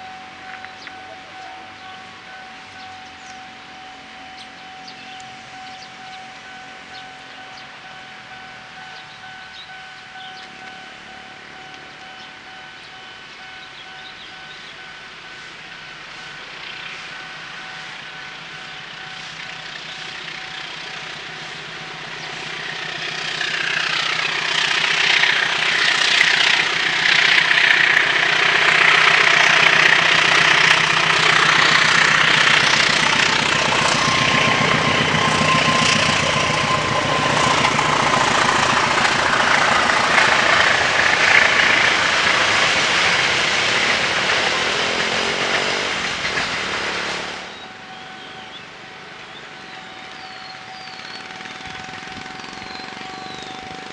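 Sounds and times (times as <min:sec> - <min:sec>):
train passing: 0:00.0 - 0:53.9
wheels clattering on rails: 0:00.0 - 0:53.9.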